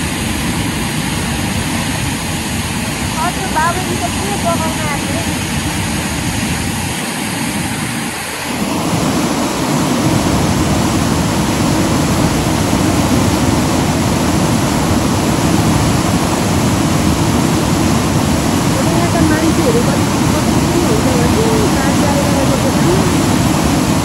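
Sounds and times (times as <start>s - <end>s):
rain: 0.0s - 24.0s
river water rushing: 0.0s - 24.0s.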